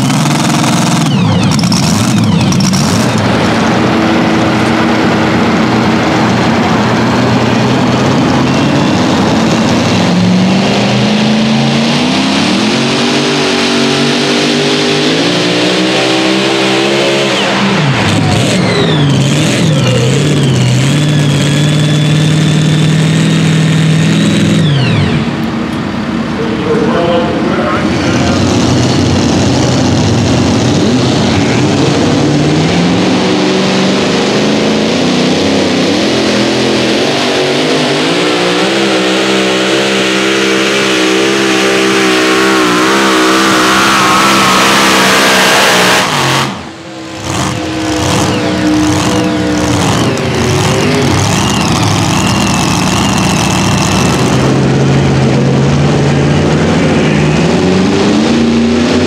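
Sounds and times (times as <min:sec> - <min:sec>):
supercharged engine at full throttle: 0:00.0 - 0:59.0
truck engine revving up: 0:00.0 - 0:59.0.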